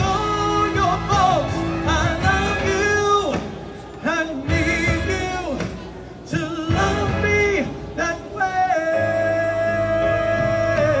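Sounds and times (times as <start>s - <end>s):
man singing a ballad: 0.0s - 11.0s
musical accompaniment: 0.0s - 11.0s.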